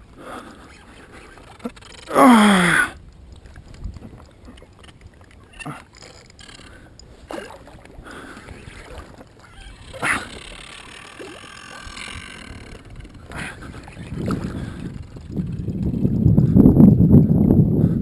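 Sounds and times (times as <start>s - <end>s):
water splashes: 0.0s - 16.5s
water lapping and gurgling: 0.0s - 18.0s.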